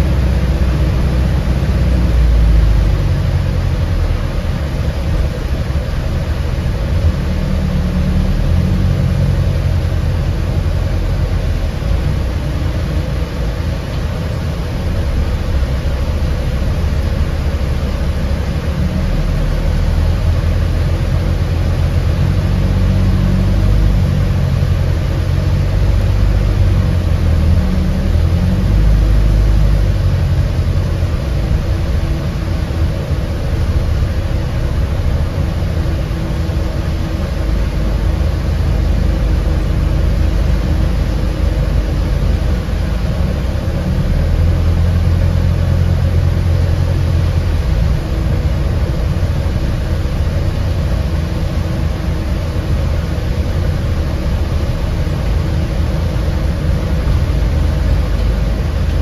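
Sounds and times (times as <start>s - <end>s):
bus drivetrain hum and rumble: 0.0s - 59.0s.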